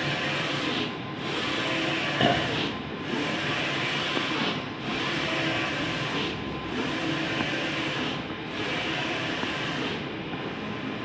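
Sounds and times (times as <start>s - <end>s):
printer carriage whirring and hissing: 0.0s - 11.0s.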